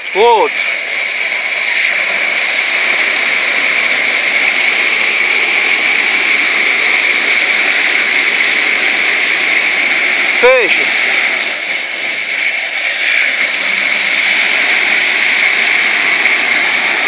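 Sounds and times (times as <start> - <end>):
water rushing through drain: 0.0 - 17.0.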